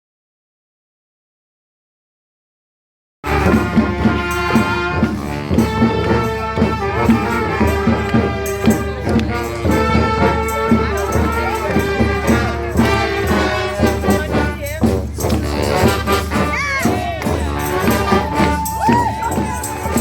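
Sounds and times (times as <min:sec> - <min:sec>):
brass horns playing: 0:03.2 - 0:20.0
steady drum beat: 0:03.2 - 0:20.0.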